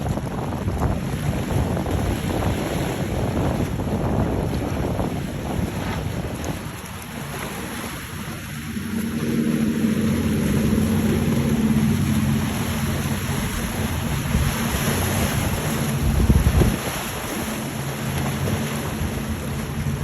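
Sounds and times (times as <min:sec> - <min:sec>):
motorboat engine droning: 0:00.0 - 0:20.0
waves: 0:00.0 - 0:20.0
wind on microphone: 0:00.0 - 0:20.0.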